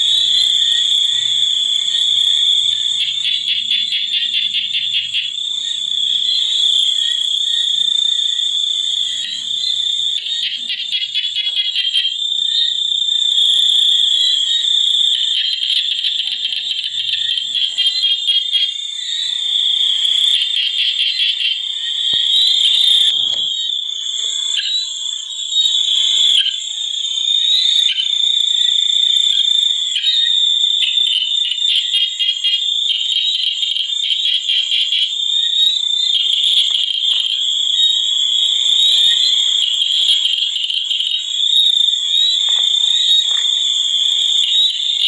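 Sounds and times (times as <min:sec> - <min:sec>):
chorus of trilling creatures: 0:00.0 - 0:28.2, 0:30.8 - 0:45.0.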